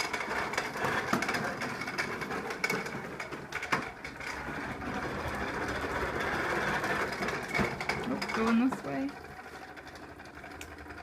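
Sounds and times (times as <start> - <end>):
toy lawn mower clattering and whirring: 0.0 - 11.0.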